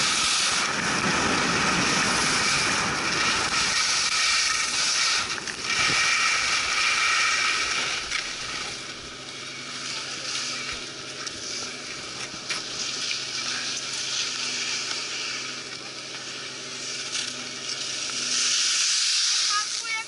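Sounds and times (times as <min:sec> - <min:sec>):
skis scraping over snow: 0:00.0 - 0:20.0.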